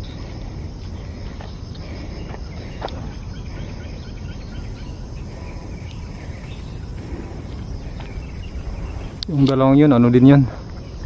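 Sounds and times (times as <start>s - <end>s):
faint chirps: 0.0s - 11.0s
steady low rumble: 0.0s - 11.0s.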